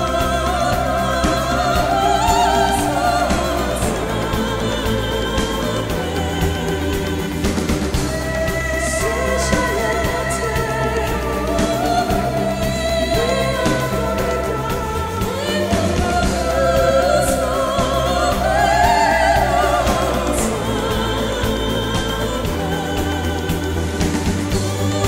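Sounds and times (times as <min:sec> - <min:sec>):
person singing with accompaniment: 0:00.0 - 0:25.0.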